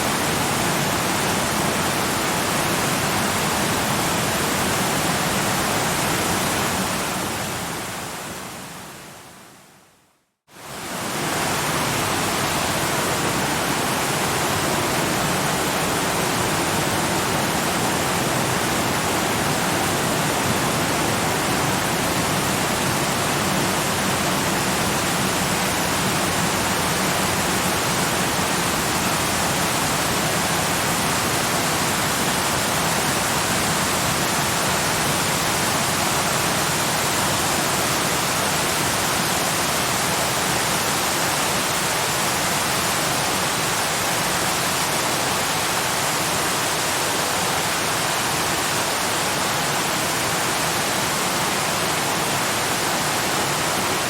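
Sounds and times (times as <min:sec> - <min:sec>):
waterfall rushing: 0:00.0 - 0:09.1, 0:10.6 - 0:54.0.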